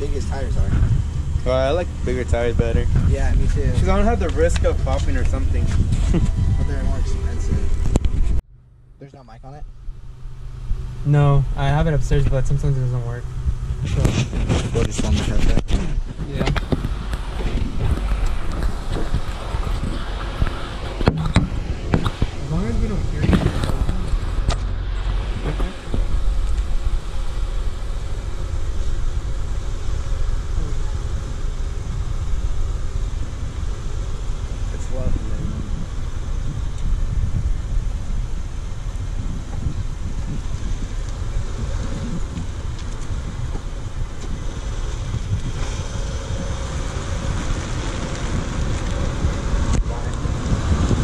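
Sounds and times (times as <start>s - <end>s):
wind buffeting microphone: 0.0s - 8.5s, 9.6s - 51.0s
car interior engine and road rumble: 0.0s - 51.0s.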